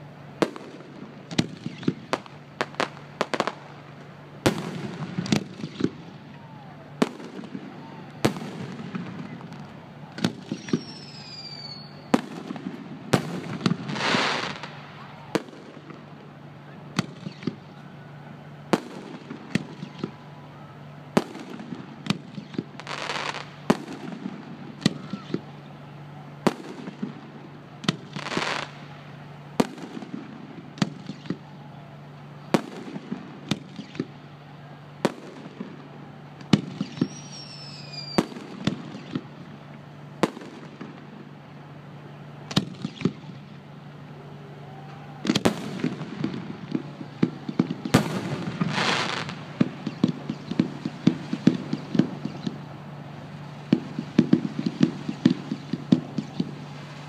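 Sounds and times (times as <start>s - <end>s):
fireworks bursting: 0.0s - 57.0s
steady low hum: 0.0s - 57.0s.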